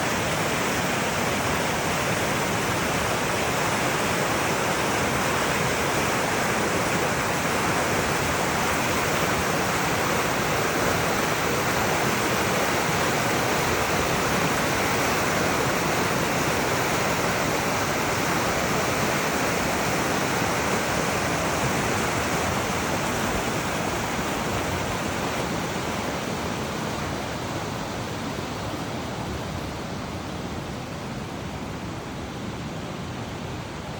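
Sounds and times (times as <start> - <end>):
creek rushing water: 0.0 - 33.9.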